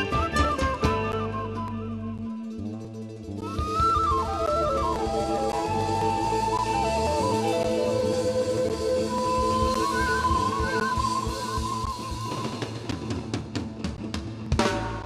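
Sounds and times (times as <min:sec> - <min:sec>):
wooden flute melody: 0:00.0 - 0:13.3
drum kit: 0:00.0 - 0:15.0
strummed guitar: 0:00.0 - 0:15.0.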